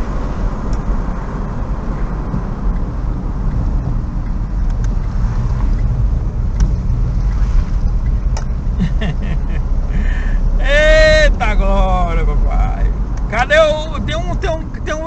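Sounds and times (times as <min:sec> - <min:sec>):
car engine from inside cabin: 0:00.0 - 0:15.0
road rumble: 0:00.0 - 0:15.0.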